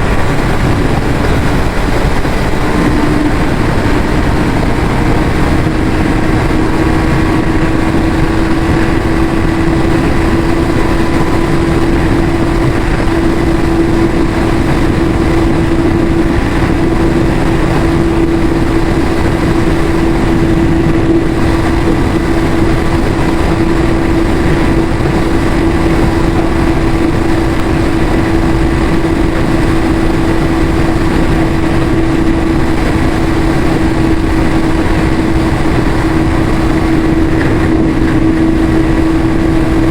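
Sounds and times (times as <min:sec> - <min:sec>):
motorcycle engine at steady revs: 0:00.0 - 0:39.9.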